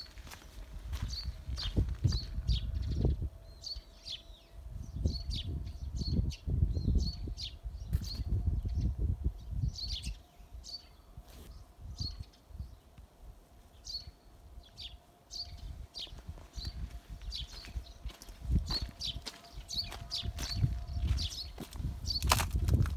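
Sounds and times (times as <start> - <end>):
low rumbling noise: 0.0 - 22.9
small birds chirping: 0.0 - 22.9.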